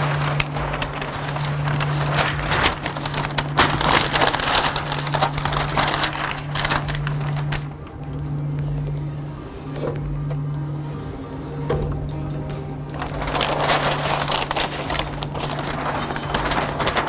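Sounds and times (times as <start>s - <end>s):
paper rustling and crinkling: 0.0s - 9.1s, 11.7s - 17.0s.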